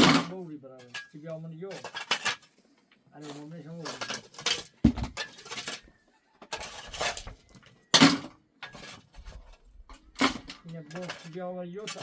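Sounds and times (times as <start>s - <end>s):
hard objects clattering and knocking: 0.0s - 12.0s.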